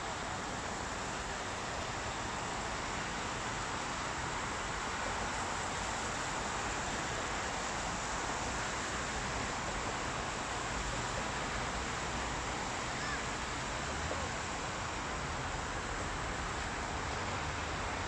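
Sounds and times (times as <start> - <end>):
rain hissing: 0.0 - 18.0
traffic on wet road: 0.0 - 18.0.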